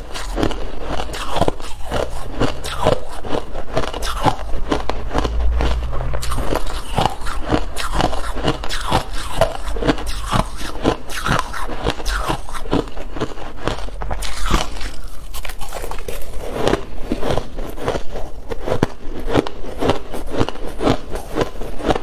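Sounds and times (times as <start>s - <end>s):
person chewing crunchy ice: 0.0s - 22.0s.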